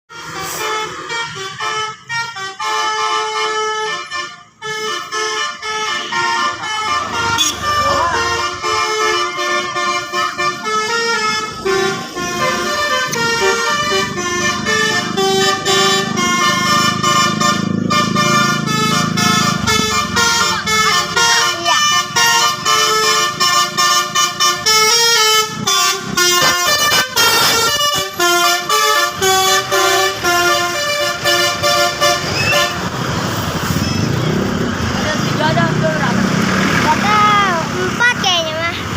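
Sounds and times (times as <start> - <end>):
multi-tone bus horn tune: 0.1 - 38.6
bus engine running low: 0.1 - 38.9.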